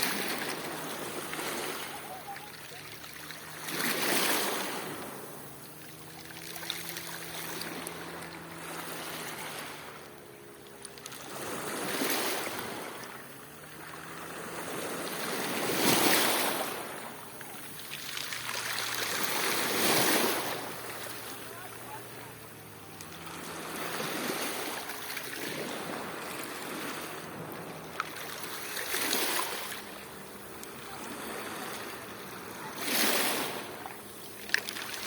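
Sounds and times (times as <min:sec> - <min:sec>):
waves washing onto shore: 0:00.0 - 0:35.0.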